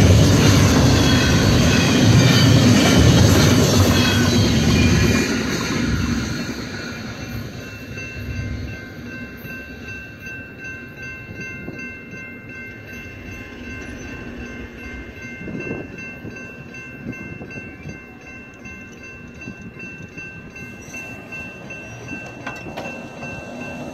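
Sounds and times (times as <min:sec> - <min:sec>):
railroad crossing bell ringing: 0:00.0 - 0:23.9
train rumbling: 0:00.0 - 0:23.9.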